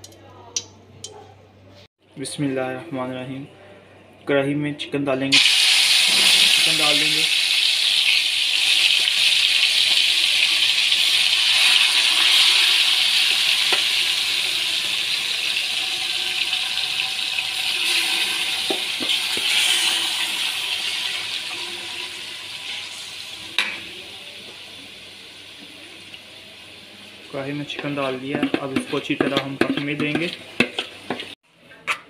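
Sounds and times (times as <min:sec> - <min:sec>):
chicken sizzling in hot oil: 0:05.3 - 0:31.4.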